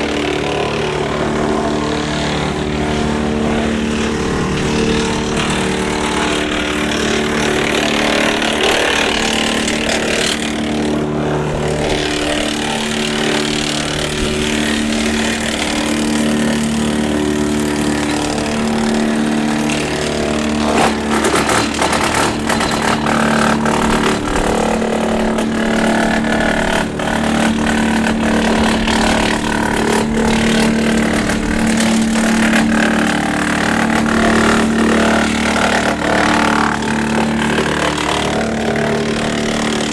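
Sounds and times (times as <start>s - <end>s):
branches crackling in chipper: 0.0s - 39.9s
tractor driving wood chipper: 0.0s - 39.9s.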